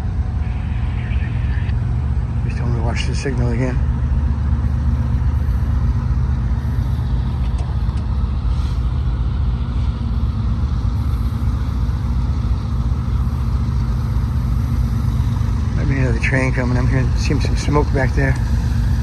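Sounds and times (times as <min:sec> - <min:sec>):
large engine idling: 0:00.0 - 0:19.0.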